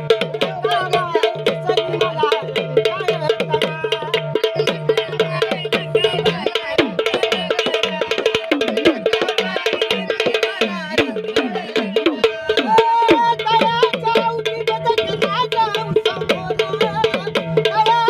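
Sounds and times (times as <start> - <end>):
drums beaten fast with sticks: 0.0 - 18.0.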